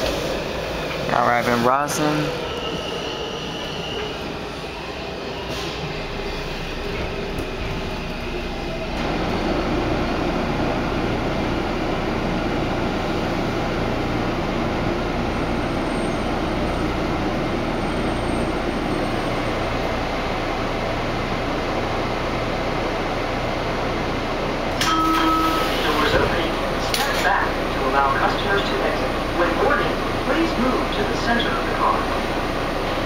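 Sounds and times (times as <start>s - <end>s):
subway car rumble: 0.0s - 33.0s.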